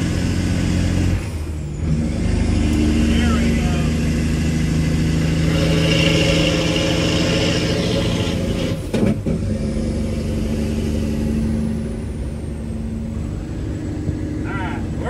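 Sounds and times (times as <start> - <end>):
diesel truck engine pulling: 0.0 - 15.0.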